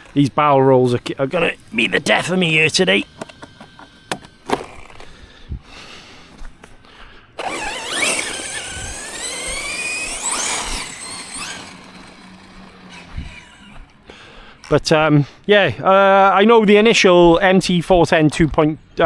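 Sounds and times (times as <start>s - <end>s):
rc truck electric motor whining: 0.0s - 16.3s.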